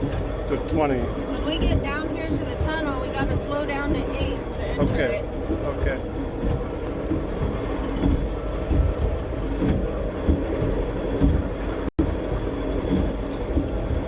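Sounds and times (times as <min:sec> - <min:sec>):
rail car rolling on track: 0:00.0 - 0:14.0.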